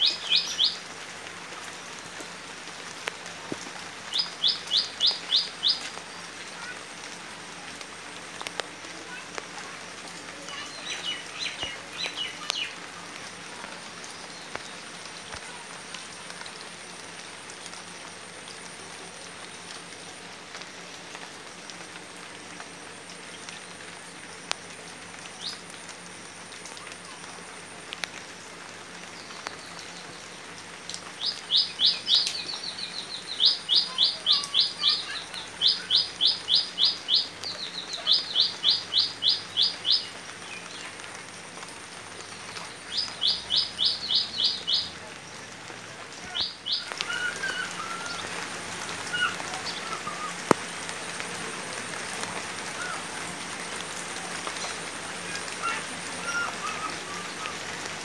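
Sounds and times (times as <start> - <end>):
light rain on water and leaves: 0.0 - 58.0
water drips: 0.0 - 58.0.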